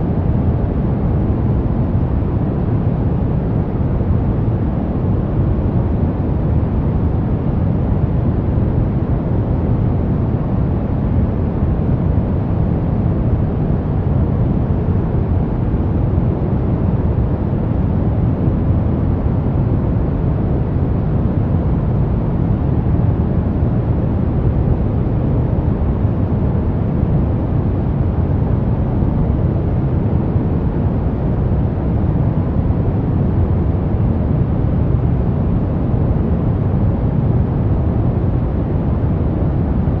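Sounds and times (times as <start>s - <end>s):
brown noise: 0.0s - 40.0s.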